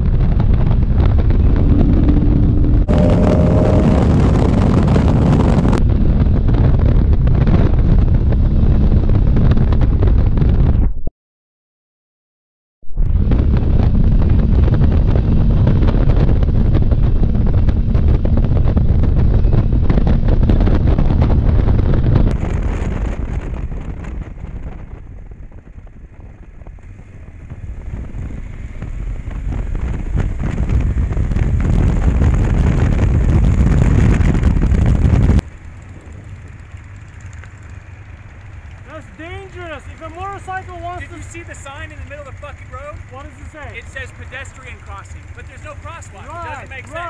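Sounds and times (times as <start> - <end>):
motorcycle engine running: 0.0 - 10.5, 13.2 - 47.0
wind rushing over microphone: 0.0 - 11.1, 12.8 - 47.0.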